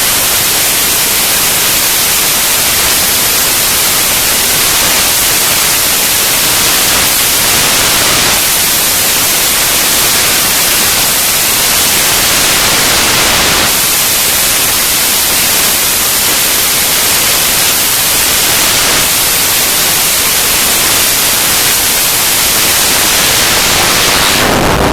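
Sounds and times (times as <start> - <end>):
loud steady static hiss: 0.0 - 24.9.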